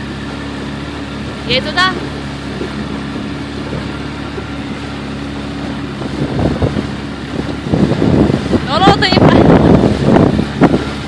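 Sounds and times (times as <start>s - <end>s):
boat motor droning: 0.0s - 11.0s
wind noise: 0.0s - 11.0s.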